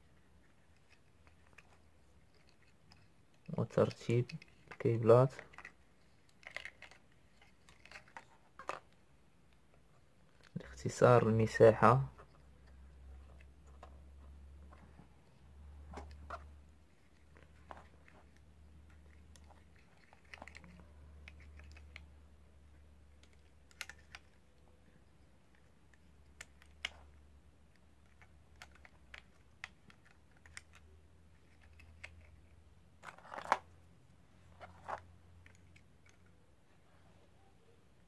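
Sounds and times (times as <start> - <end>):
hands handling cables and plastic parts: 0.0 - 36.6
faint low hum: 0.0 - 38.0.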